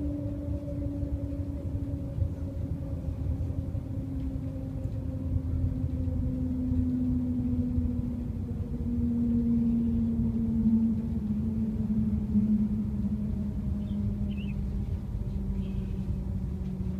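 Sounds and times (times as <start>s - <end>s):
steady train hum: 0.0s - 16.9s
train low rumble: 0.0s - 16.9s.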